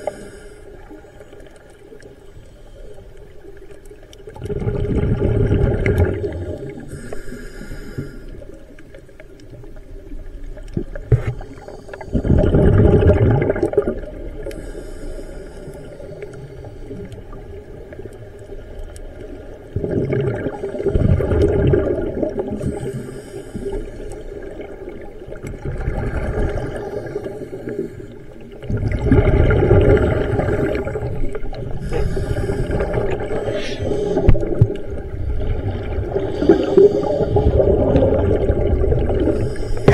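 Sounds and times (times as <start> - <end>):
underwater rushing and bubbles: 0.0 - 39.9.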